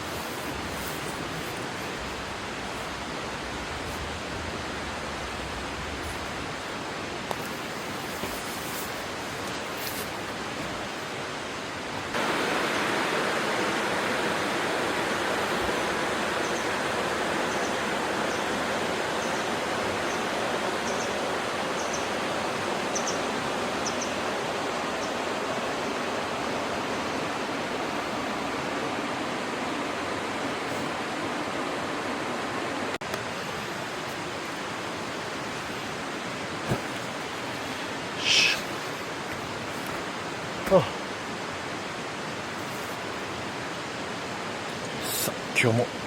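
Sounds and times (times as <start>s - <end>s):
rushing outdoor noise: 0.0s - 46.0s.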